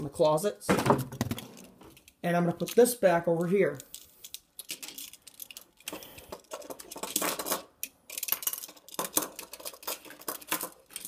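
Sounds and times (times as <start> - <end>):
toys clicking and clattering: 0.0 - 11.0.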